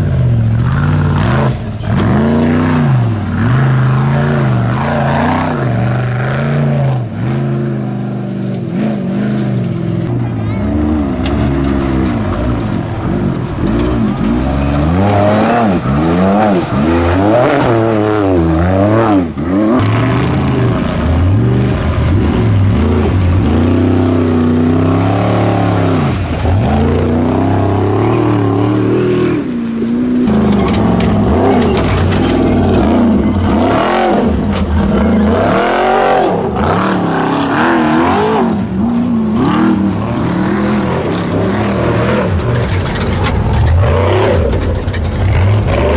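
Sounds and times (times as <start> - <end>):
race truck engines revving: 0.0 - 45.9.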